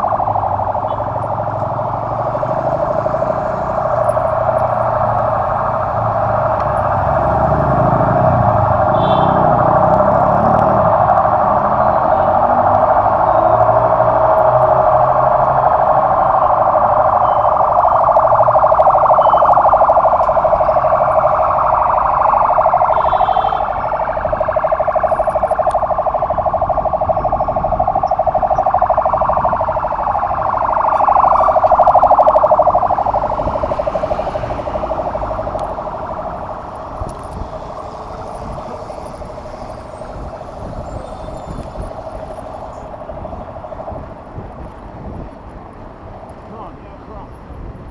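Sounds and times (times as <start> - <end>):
sirens wailing: 0.0 - 47.9.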